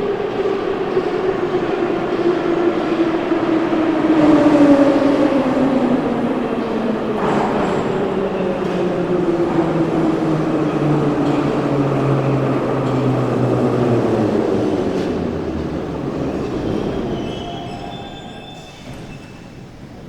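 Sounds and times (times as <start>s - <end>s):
metro train rumbling on rails: 0.0s - 20.0s.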